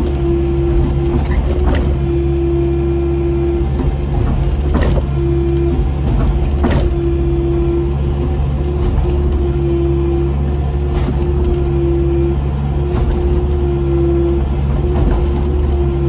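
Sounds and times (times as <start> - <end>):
excavator diesel engine and hydraulics: 0.0 - 16.0.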